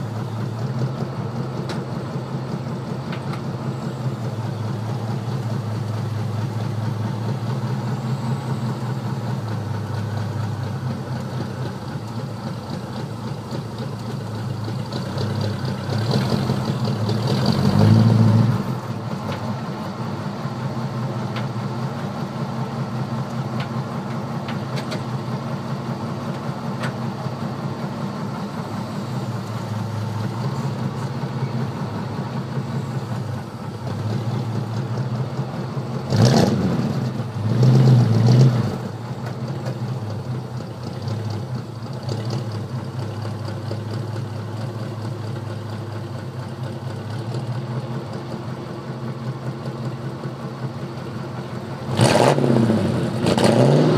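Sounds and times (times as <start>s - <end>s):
car engine idling: 0.0s - 53.4s.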